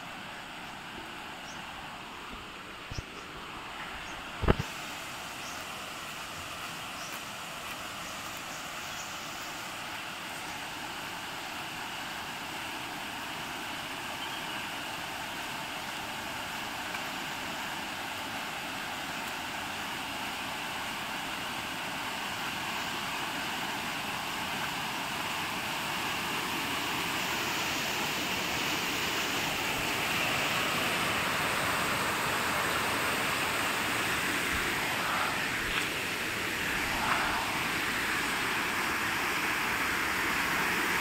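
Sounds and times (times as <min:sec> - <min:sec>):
water rushing: 0:00.0 - 0:41.0.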